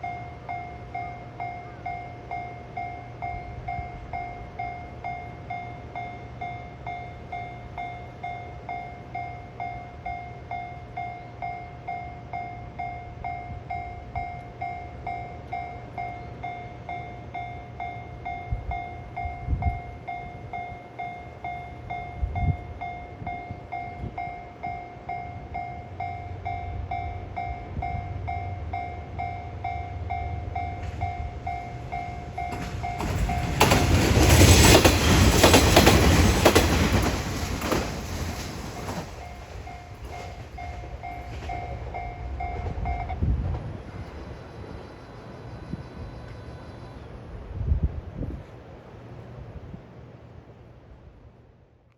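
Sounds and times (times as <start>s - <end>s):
level crossing warning bell: 0.0s - 47.2s
diesel train rumbling past: 0.0s - 51.9s.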